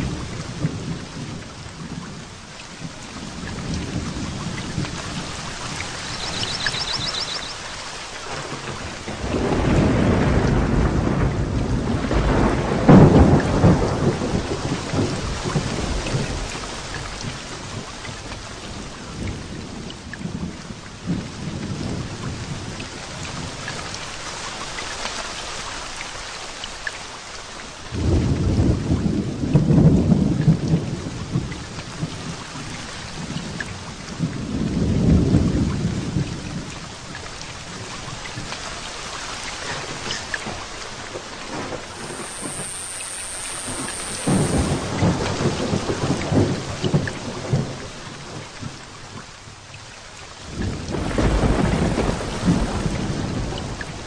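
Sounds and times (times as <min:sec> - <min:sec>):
rolling thunder: 0:00.0 - 0:22.8, 0:27.9 - 0:32.4, 0:33.2 - 0:36.7, 0:39.6 - 0:48.9, 0:50.5 - 0:54.0
heavy rain: 0:00.0 - 0:54.0.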